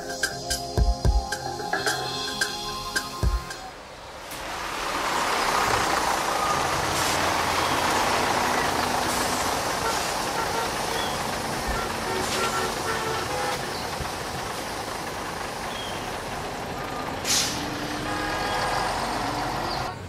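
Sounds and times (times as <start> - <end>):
bus engine running: 0.0 - 20.0
road traffic noise: 0.0 - 20.0.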